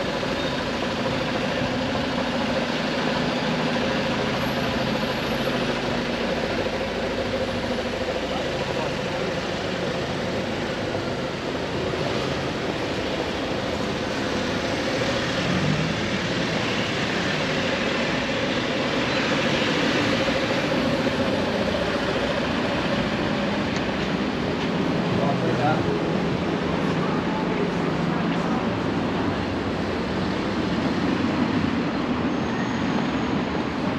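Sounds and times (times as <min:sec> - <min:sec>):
street traffic engine hum: 0:00.0 - 0:33.9.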